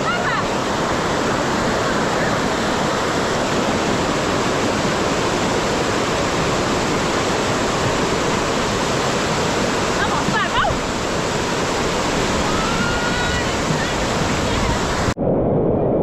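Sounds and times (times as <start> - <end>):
floodwater rushing: 0.0 - 15.2.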